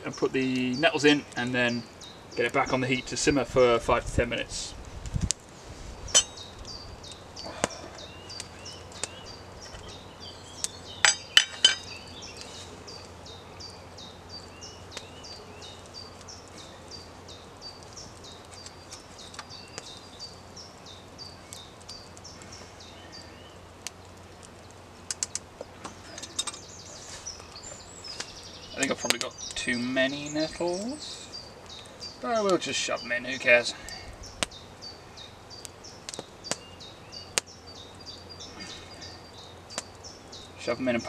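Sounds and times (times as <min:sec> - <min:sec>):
bird chirping: 0:00.0 - 0:03.5, 0:06.0 - 0:41.0.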